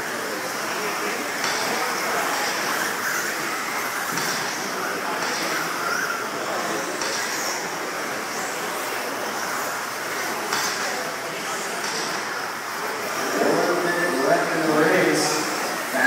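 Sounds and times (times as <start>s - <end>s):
electric motors whining: 0.0s - 16.0s
steady rush of noise: 0.0s - 16.0s.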